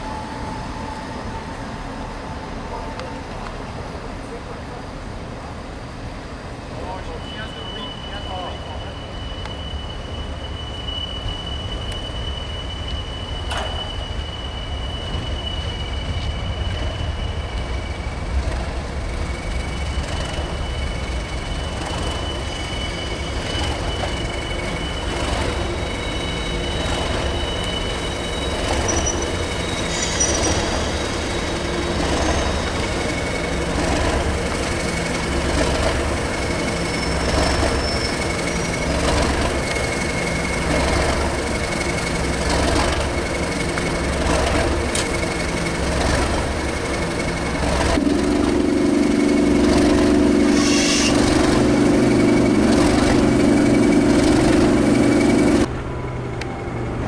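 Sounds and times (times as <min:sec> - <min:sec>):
diesel locomotive engine throbbing: 0:00.0 - 0:57.0
high-pitched wheel squeal: 0:06.8 - 0:48.0, 0:48.6 - 0:55.7.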